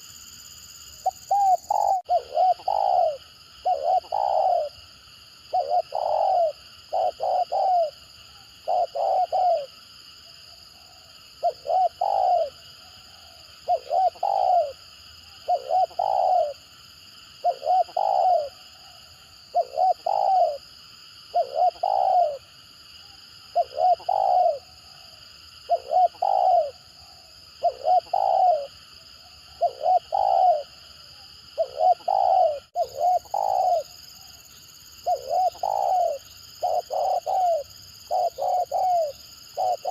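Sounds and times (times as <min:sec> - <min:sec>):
dove cooing: 0:01.0 - 0:04.8, 0:05.5 - 0:09.8, 0:10.8 - 0:16.6, 0:17.4 - 0:20.7, 0:21.3 - 0:22.5, 0:23.5 - 0:25.0, 0:25.7 - 0:28.8, 0:29.5 - 0:39.9.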